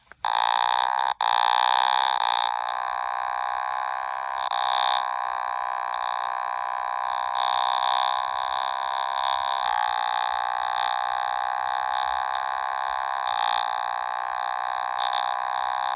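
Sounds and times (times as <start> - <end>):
buzzy nasal otamatone tone: 0.0 - 15.9.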